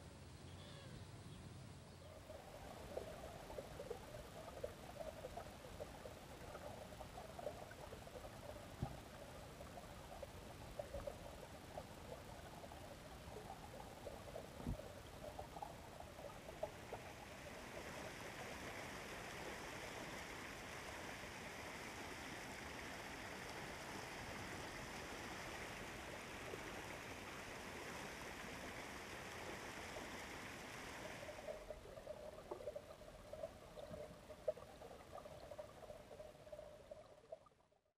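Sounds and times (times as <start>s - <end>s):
rush of flowing water: 2.1s - 37.2s
trickling bubbling water: 2.1s - 37.8s.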